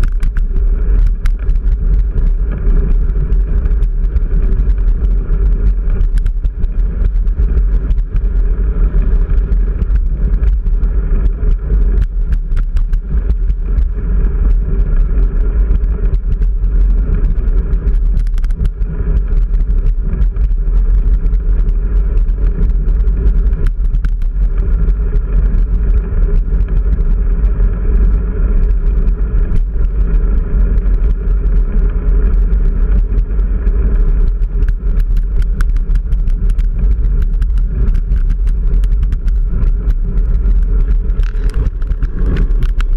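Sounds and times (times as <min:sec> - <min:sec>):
bicycle clicks and knocks: 0:00.0 - 0:42.9
wind and road noise rumble: 0:00.0 - 0:42.9.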